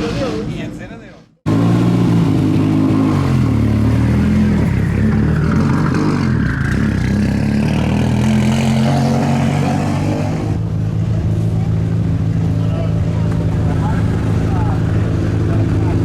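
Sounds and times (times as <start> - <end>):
rally car engine revving: 1.5 - 16.0.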